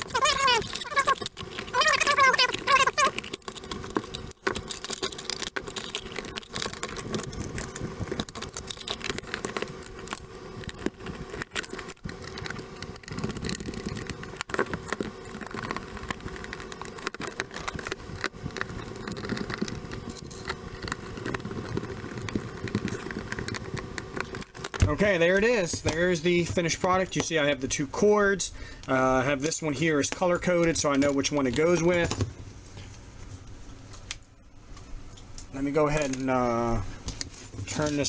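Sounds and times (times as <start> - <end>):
faint background hum: 0.0 - 38.0.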